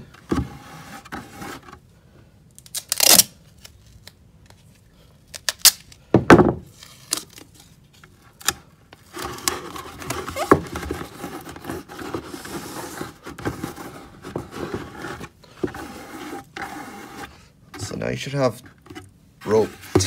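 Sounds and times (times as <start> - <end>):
tape rubbing and crinkling: 2.6 - 6.0, 6.7 - 20.0.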